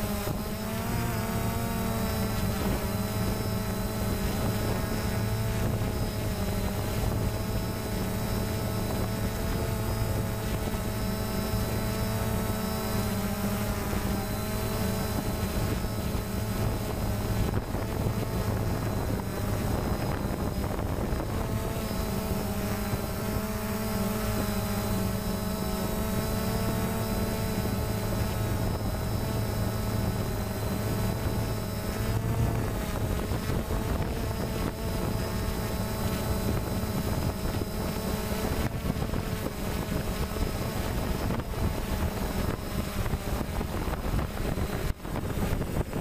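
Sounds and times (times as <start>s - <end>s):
drone propellers buzzing: 0.0s - 46.0s.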